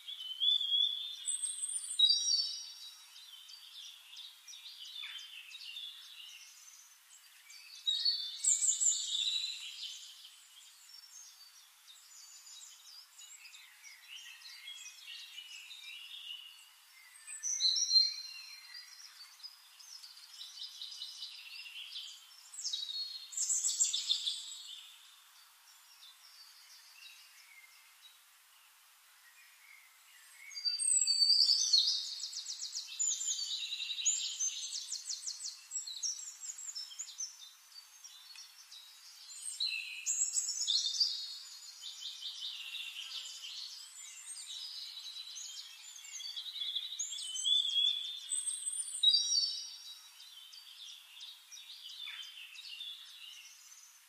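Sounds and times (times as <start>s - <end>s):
small birds chirping and singing: 0.0s - 54.0s.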